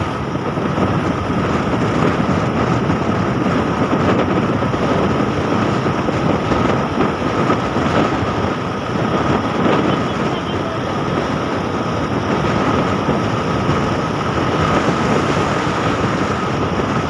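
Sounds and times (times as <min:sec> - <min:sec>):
rushing air: 0:00.0 - 0:17.0
vehicle engine and road noise: 0:00.0 - 0:17.0.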